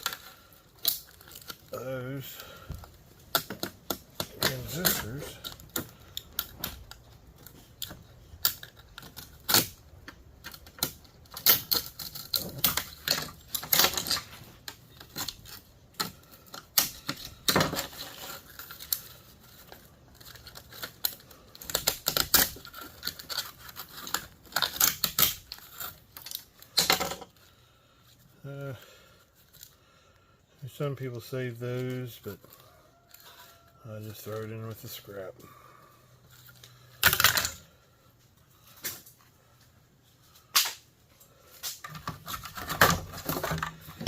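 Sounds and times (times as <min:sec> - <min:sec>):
small parts clicking and clattering: 0:00.0 - 0:29.8, 0:36.0 - 0:44.0.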